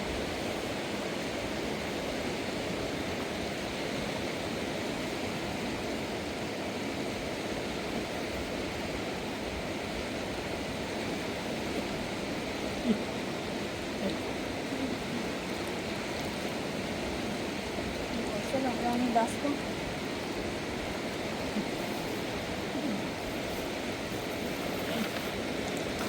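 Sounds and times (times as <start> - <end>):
mountain river rushing: 0.0 - 26.0.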